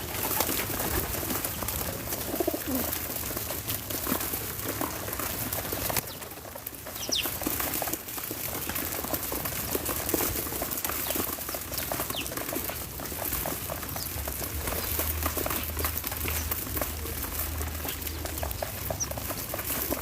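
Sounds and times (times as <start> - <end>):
bird wings flapping: 0.0 - 20.0.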